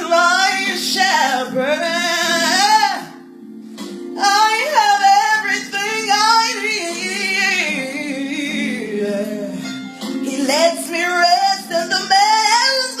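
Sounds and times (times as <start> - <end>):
woman singing gospel: 0.0 - 3.2, 4.2 - 13.0.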